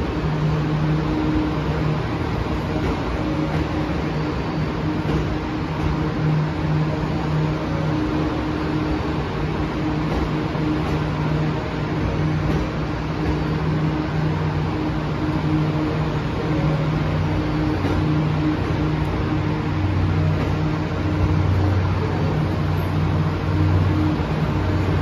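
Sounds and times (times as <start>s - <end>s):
train cars rolling slowly: 0.0s - 25.0s.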